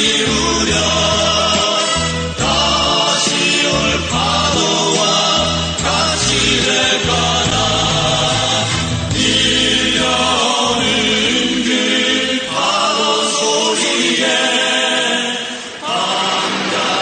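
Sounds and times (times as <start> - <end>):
choir-like group singing: 0.0 - 17.0.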